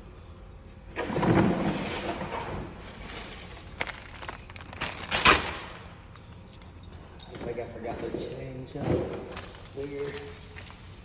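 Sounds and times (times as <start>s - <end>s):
things rustling and clattering: 0.9s - 11.0s.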